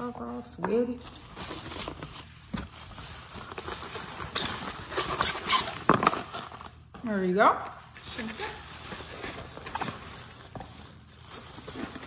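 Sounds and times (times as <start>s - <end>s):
wrapping crinkling and rustling: 0.0s - 12.0s.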